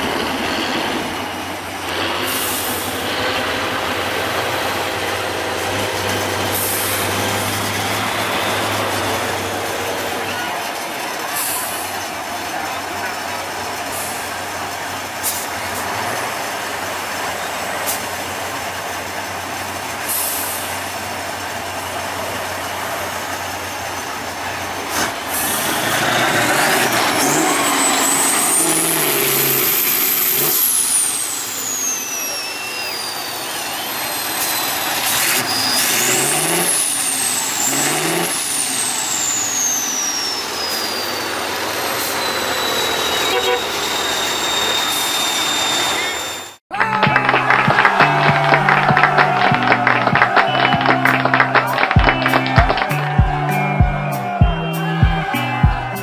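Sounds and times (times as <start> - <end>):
truck diesel engine revving: 0.0 - 56.0
high engine whistle: 1.8 - 56.0.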